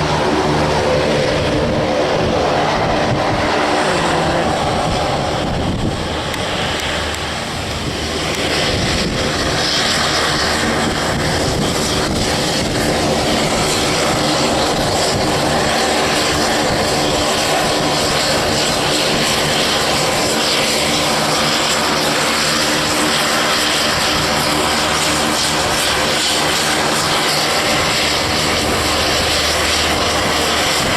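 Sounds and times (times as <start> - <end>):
aircraft engines running: 0.0 - 30.9.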